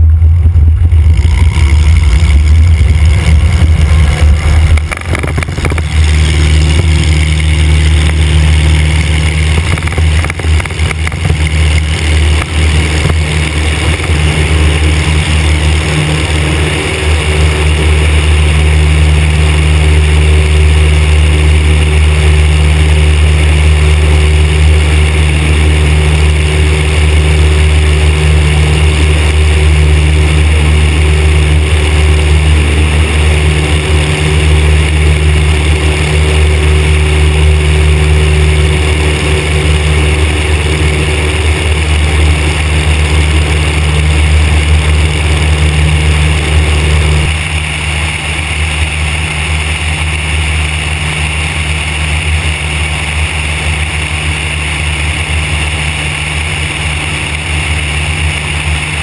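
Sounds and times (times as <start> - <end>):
propeller aircraft engine: 0.0 - 59.0
wind rushing over microphone: 0.0 - 59.0.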